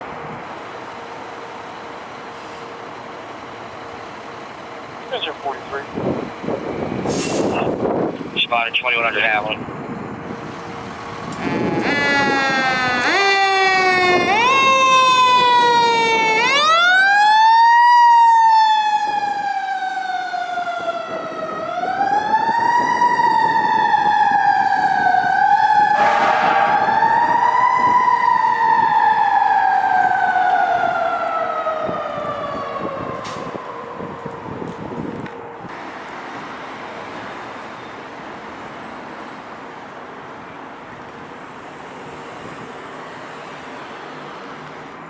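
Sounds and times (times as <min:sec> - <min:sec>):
fire engine siren wailing: 0:00.0 - 0:38.9.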